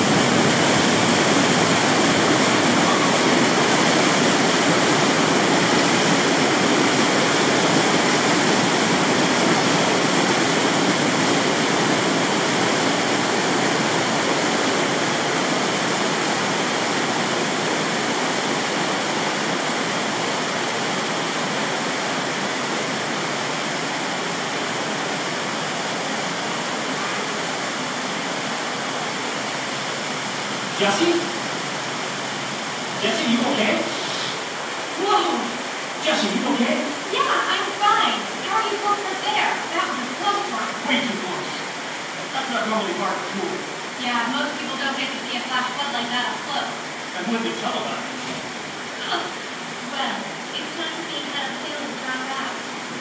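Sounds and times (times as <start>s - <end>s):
water rushing down channel: 0.0s - 53.0s.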